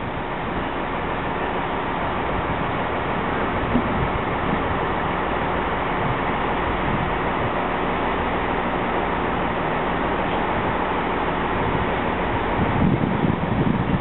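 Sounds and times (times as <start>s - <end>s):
diesel train engines running: 0.0s - 14.0s.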